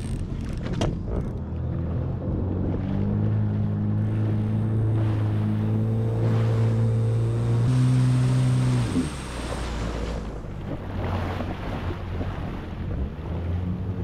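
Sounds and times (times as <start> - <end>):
watercraft engine running: 0.0 - 14.0.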